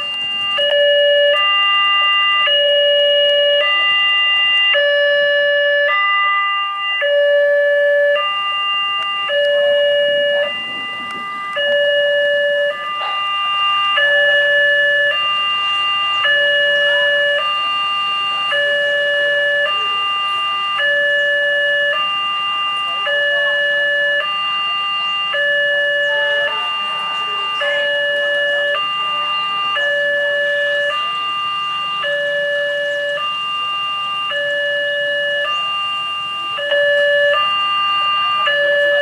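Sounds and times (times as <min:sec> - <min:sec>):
two-tone warning siren: 0:00.0 - 0:39.0.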